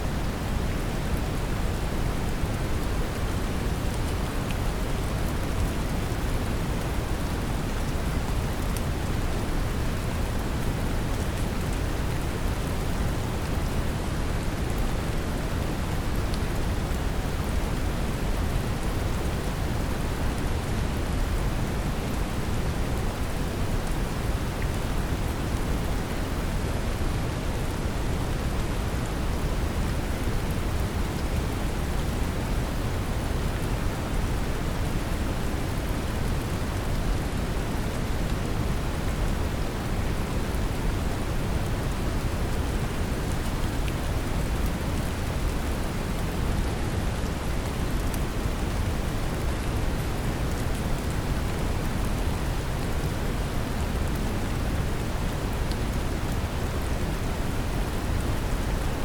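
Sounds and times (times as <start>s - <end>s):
gentle rain pattering: 0.0s - 59.0s.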